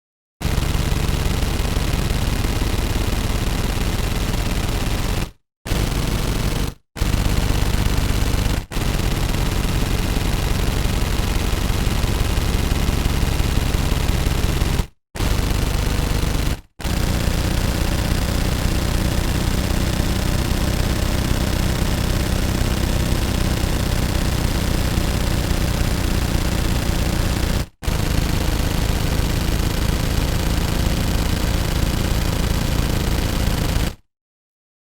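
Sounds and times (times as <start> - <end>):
automatic gunfire bursts: 0.4 - 34.0.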